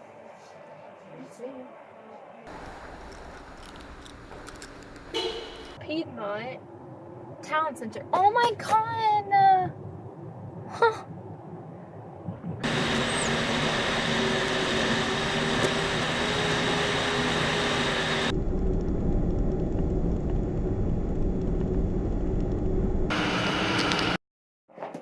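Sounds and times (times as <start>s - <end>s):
car road and engine noise: 2.5s - 24.2s.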